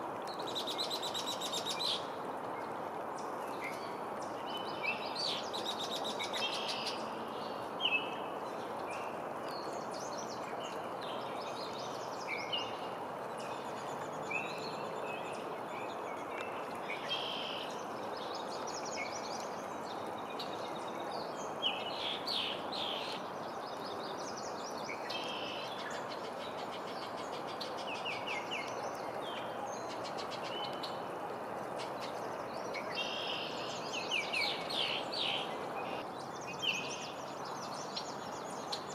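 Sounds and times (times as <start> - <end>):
songbirds chirping and trilling: 0.2 - 38.9.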